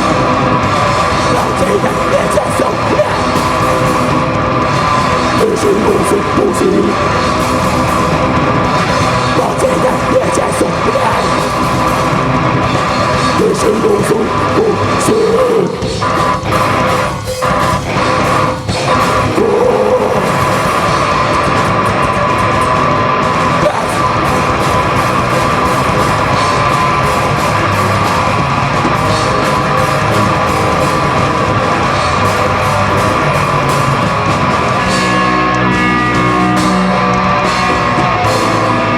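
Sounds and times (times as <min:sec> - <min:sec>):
heavy metal band playing: 0:00.0 - 0:38.9.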